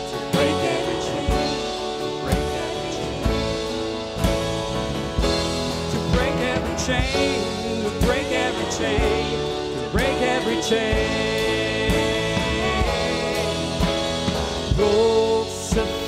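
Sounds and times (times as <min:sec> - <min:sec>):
person singing: 0:00.0 - 0:04.2, 0:05.9 - 0:16.0
drum hits: 0:00.3 - 0:16.0.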